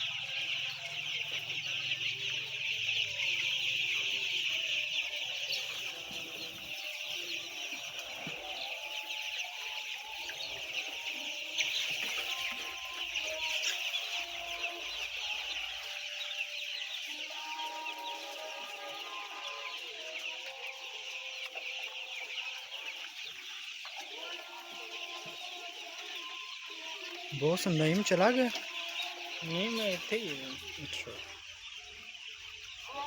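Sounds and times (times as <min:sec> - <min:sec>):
chicks peeping: 0:00.0 - 0:33.0.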